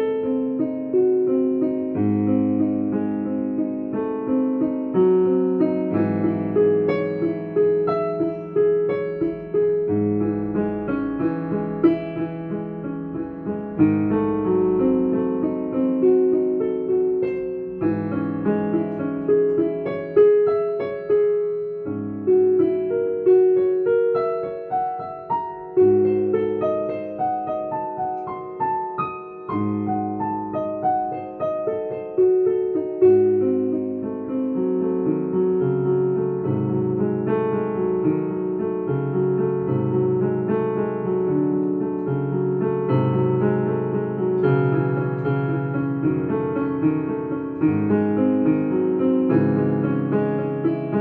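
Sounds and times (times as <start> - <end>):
solo piano: 0.0 - 51.0.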